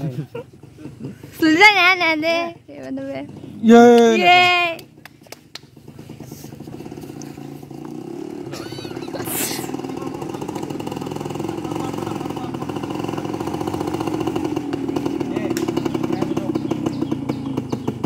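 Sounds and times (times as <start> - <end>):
motorcycle engine approaching: 0.0 - 18.0.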